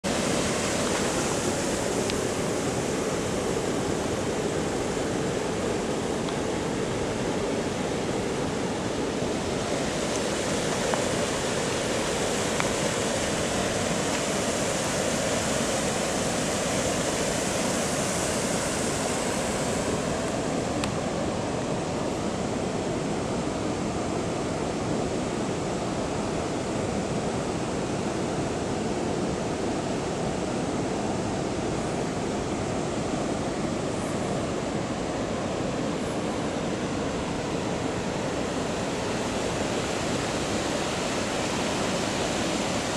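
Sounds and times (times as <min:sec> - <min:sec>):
steady rushing noise: 0:00.0 - 0:42.9.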